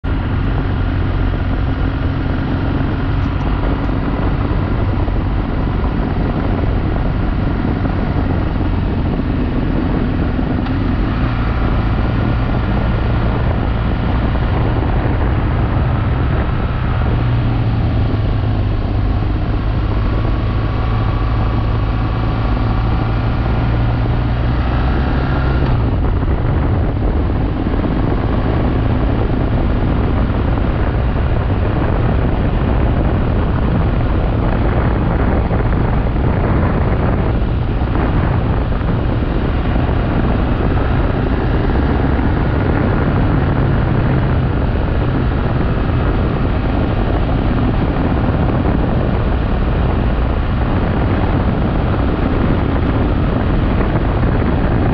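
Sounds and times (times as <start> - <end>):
motorcycle engine at speed: 0.0 - 54.9
wind rushing over microphone: 0.0 - 54.9.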